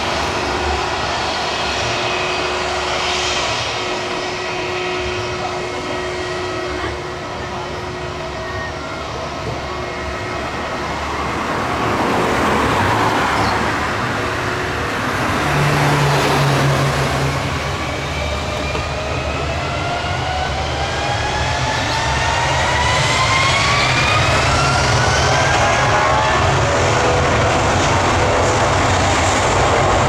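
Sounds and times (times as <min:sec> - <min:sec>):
jet engine whine rising: 0:00.0 - 0:30.0
jet engines rushing: 0:00.0 - 0:30.0.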